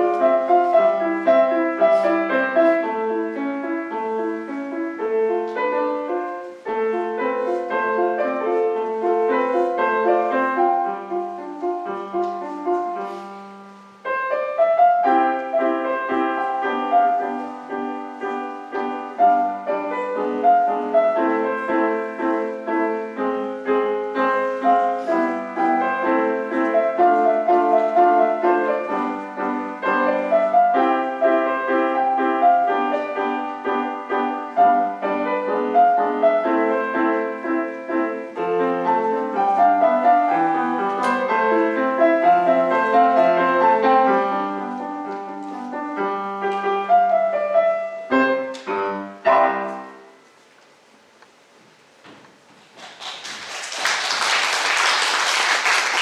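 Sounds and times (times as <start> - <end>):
solo piano melody: 0.0 - 52.5.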